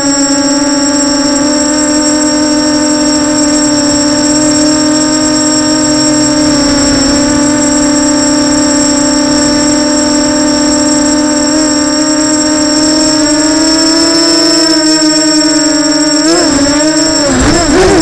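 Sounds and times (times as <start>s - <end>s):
drone motors buzzing: 0.0s - 18.0s
high propeller whine: 0.0s - 18.0s.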